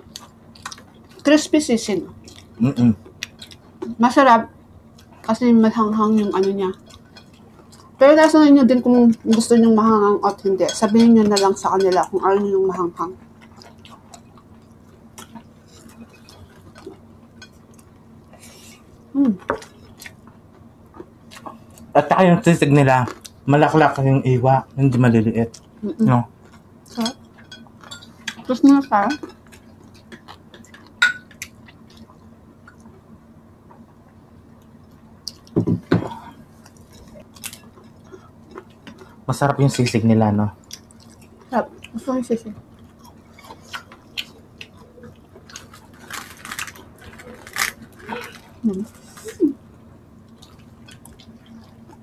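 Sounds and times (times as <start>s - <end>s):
people chewing: 0.0s - 4.0s, 4.9s - 24.1s, 24.8s - 33.0s, 34.5s - 49.6s, 50.2s - 52.0s
faint steady hum: 0.0s - 52.0s.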